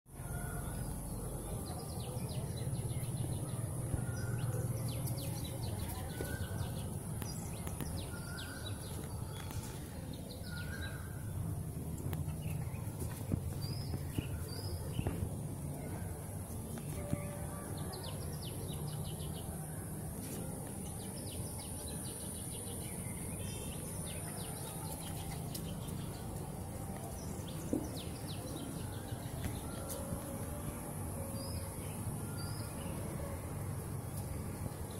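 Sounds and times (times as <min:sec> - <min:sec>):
small birds chirping: 0:00.2 - 0:33.1.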